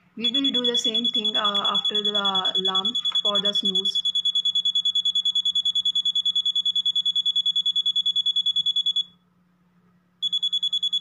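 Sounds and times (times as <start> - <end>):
alarm clock buzzer beeping: 0.2 - 9.1, 10.2 - 11.0.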